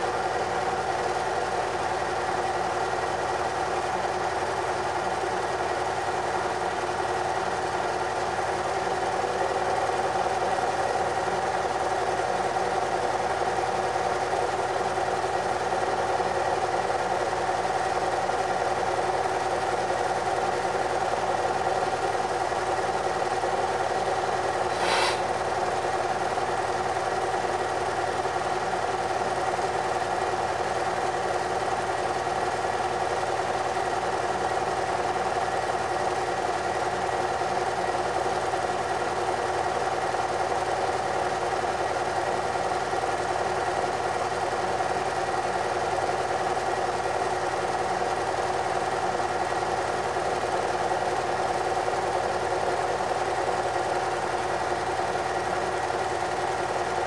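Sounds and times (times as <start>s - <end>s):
film projector whirring and clattering: 0.0s - 57.0s.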